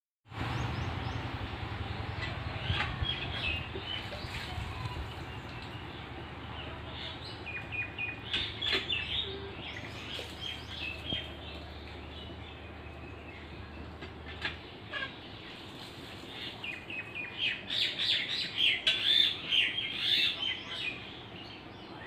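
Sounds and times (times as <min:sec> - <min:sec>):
birds chirping: 0:00.3 - 0:22.0.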